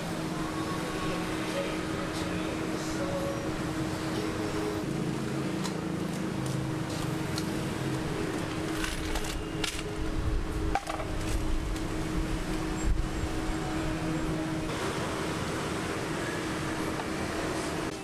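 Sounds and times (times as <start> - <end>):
passing traffic: 0.0 - 18.0.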